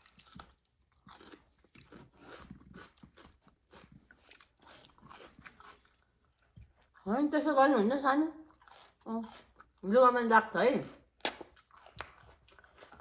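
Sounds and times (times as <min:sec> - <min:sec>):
person chewing and crunching: 0:00.0 - 0:07.1, 0:08.4 - 0:09.9, 0:10.7 - 0:13.0.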